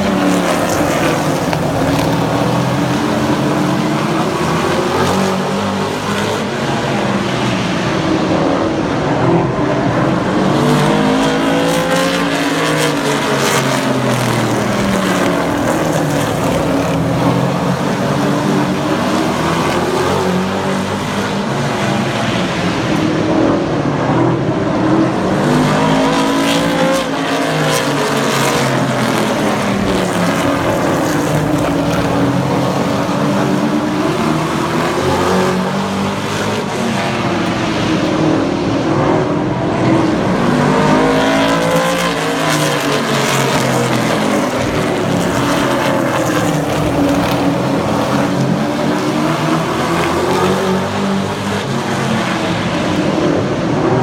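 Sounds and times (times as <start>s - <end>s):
race truck engines passing: 0.0s - 54.0s.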